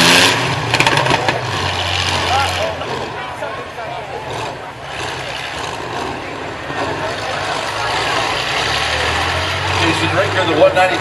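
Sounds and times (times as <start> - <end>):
truck engines running: 0.0 - 11.0
faint crowd voices: 0.4 - 11.0.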